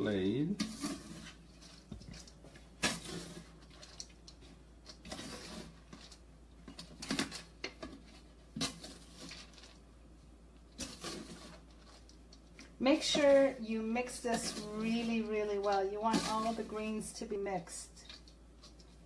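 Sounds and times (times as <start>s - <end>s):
spoon scraping a colander: 0.6s - 9.8s, 10.8s - 12.2s, 12.9s - 19.0s.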